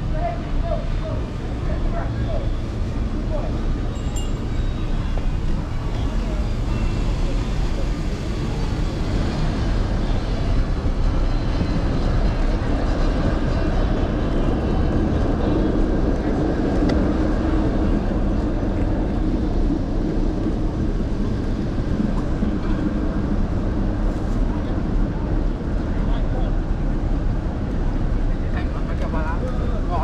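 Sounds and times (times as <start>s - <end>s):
city street traffic rumble: 0.0s - 30.0s.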